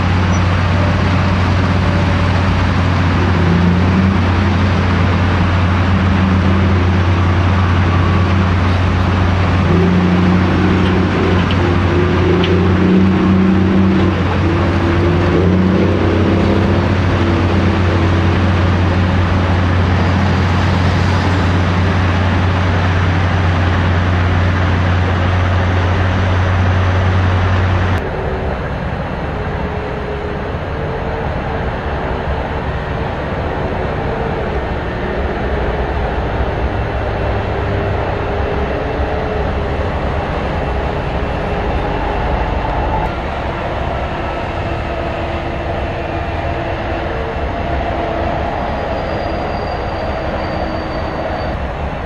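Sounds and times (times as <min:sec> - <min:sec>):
diesel construction machines running: 0:00.0 - 0:52.0
motorway traffic: 0:00.0 - 0:52.0.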